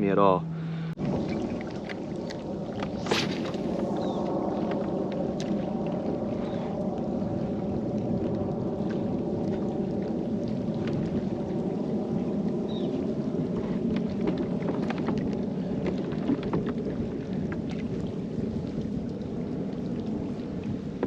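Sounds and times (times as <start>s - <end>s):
rush of water and wind: 0.0s - 21.0s
light ticks and splashes: 1.3s - 3.6s, 4.2s - 7.1s, 7.7s - 21.0s.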